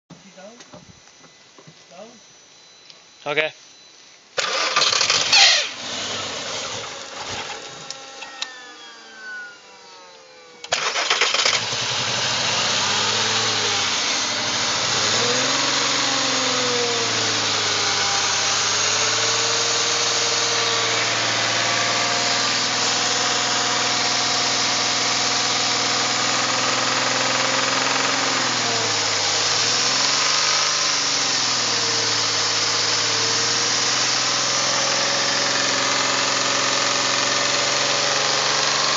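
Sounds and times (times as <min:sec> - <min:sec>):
engine starting and idling roughly: 0:04.4 - 0:07.8, 0:10.7 - 0:38.9.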